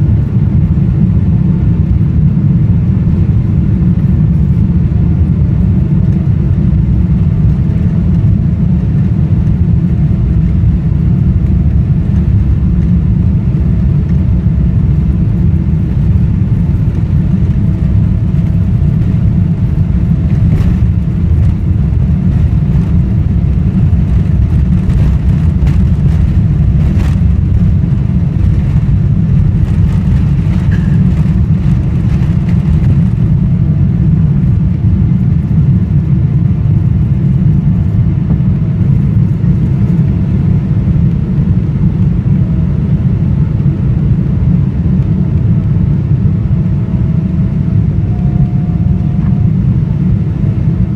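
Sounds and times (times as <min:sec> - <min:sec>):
jet engines low rumble: 0:00.0 - 0:50.9.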